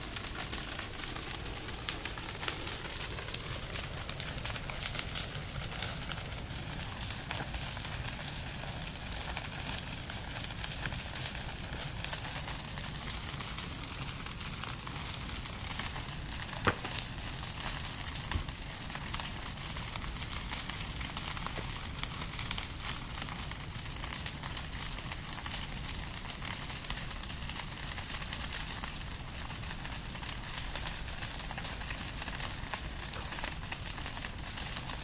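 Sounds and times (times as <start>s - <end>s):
firewood burning with crackling: 0.0s - 35.0s
sharp pops of burning wood: 0.0s - 35.0s.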